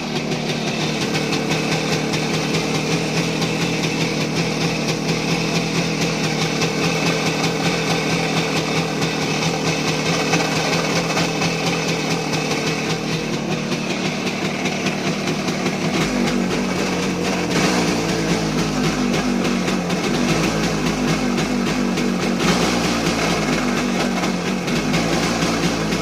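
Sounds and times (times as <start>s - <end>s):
two-stroke motorcycle engine knocking: 0.0s - 26.0s.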